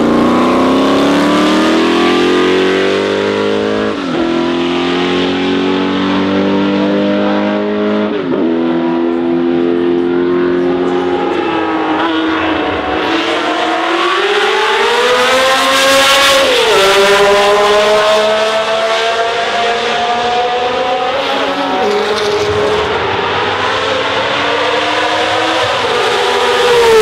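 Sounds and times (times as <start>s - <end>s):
racing car engine at full throttle: 0.0s - 27.0s.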